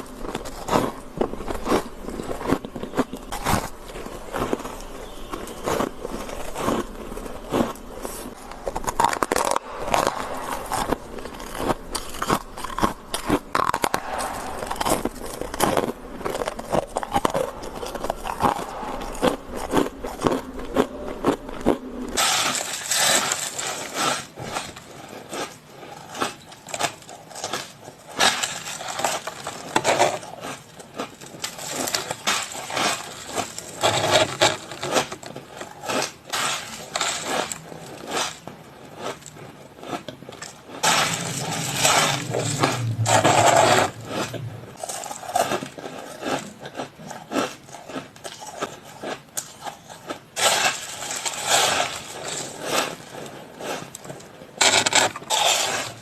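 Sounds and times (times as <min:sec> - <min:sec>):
ice crunching in mouth: 0:00.0 - 0:56.0.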